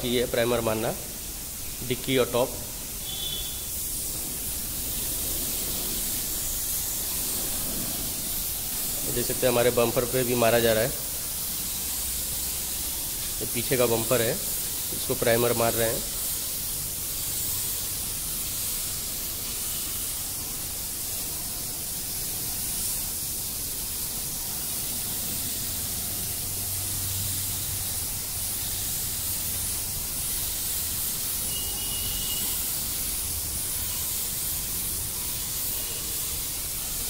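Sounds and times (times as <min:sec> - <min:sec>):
spray gun hissing: 0:00.0 - 0:37.0.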